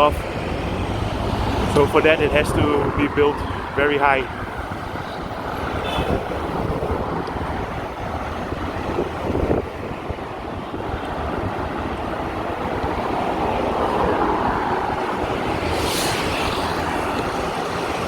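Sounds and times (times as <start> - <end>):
road traffic: 0.0 - 18.0
vehicle passing: 0.0 - 18.0
wind buffeting microphone: 0.0 - 18.0.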